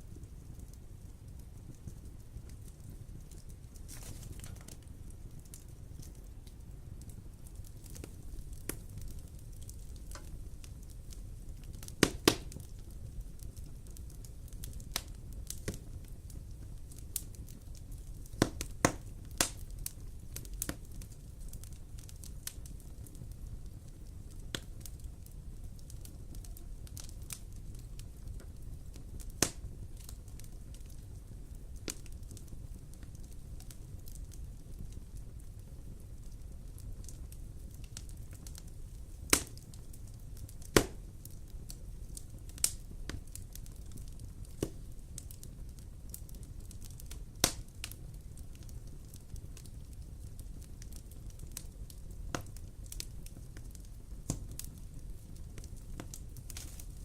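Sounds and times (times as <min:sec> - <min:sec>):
wood fire crackling: 0:00.0 - 0:57.0
sharp pops of fire: 0:00.1 - 0:57.0.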